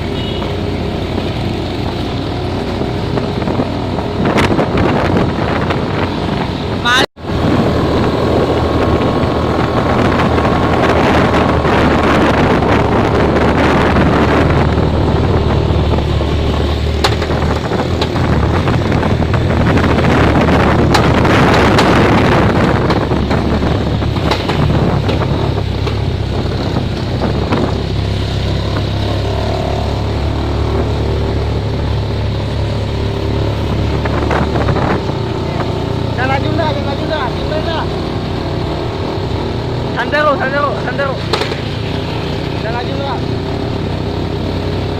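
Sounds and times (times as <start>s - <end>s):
boat engine running: 0.0s - 44.9s
wind buffeting microphone: 0.0s - 44.9s.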